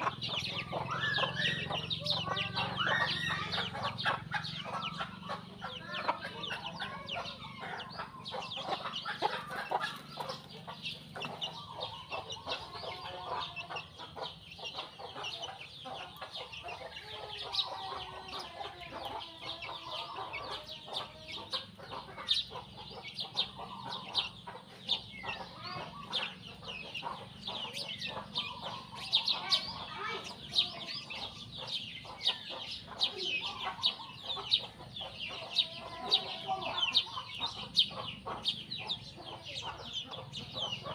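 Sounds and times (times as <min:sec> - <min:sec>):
chickens clucking: 0:00.0 - 0:40.9
sparrows chirping: 0:00.0 - 0:40.9.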